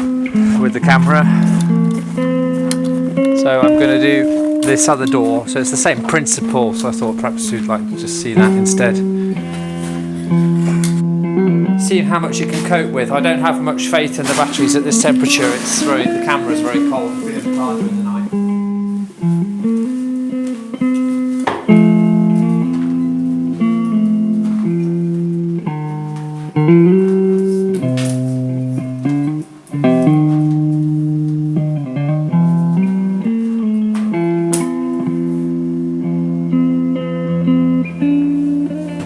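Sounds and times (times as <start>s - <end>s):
guitar music: 0.0s - 39.0s.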